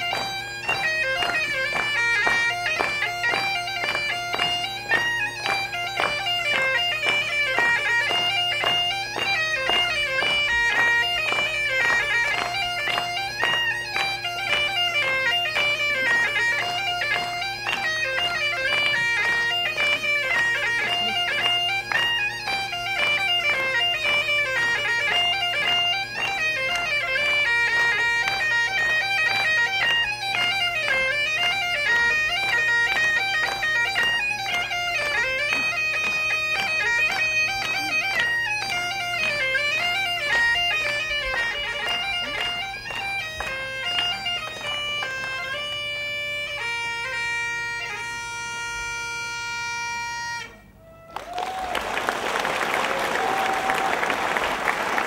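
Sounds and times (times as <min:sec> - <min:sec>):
bagpipes playing a tune: 0:00.0 - 0:51.4.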